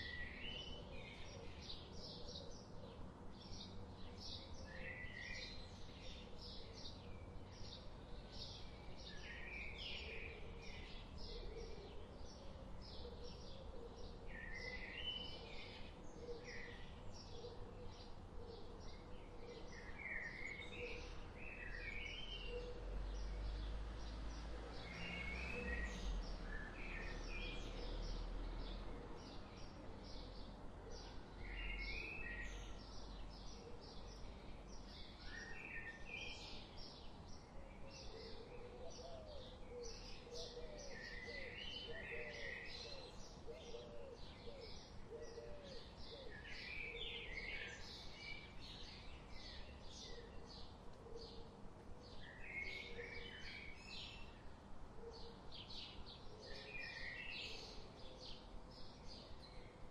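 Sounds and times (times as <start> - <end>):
bird warbling song: 0.0 - 54.4.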